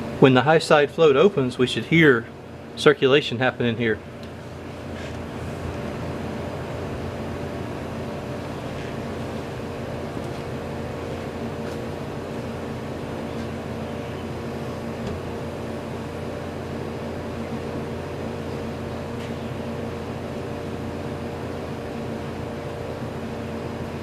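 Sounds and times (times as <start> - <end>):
refrigerator compressor humming: 0.0 - 24.0.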